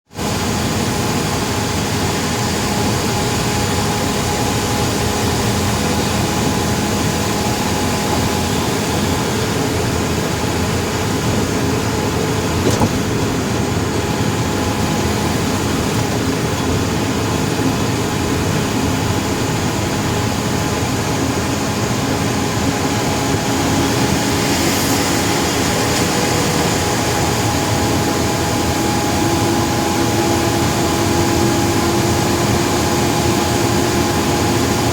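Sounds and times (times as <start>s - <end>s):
vehicle engine and road noise: 0.2s - 34.9s.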